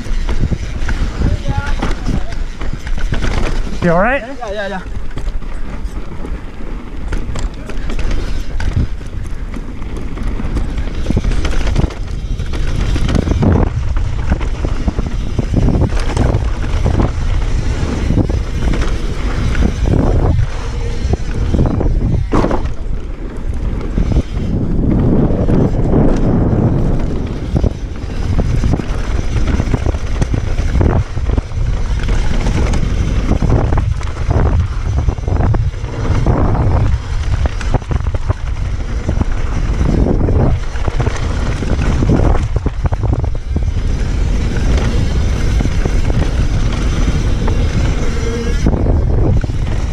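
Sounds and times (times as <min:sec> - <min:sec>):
bike clattering and knocking: 0:00.0 - 0:49.9
tyres rolling on loose dirt: 0:00.0 - 0:49.9
wind buffeting microphone: 0:00.0 - 0:49.9.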